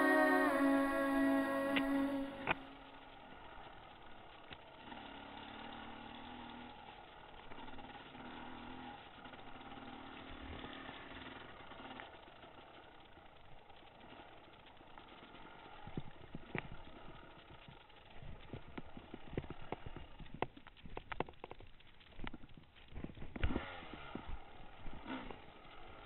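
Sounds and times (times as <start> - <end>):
dirt bike engine: 0.0 - 26.0
rough ride rumble: 0.0 - 26.0.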